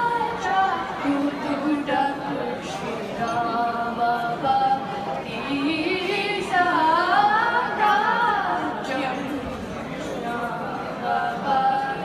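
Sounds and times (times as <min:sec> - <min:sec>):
girls singing into microphones: 0:00.0 - 0:12.0.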